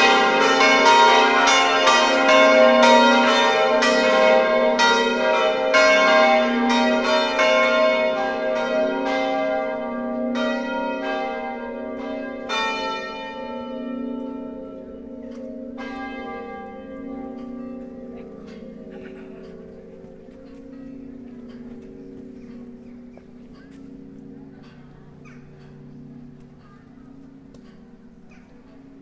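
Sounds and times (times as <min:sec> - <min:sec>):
church bells ringing a peal: 0:00.0 - 0:29.0.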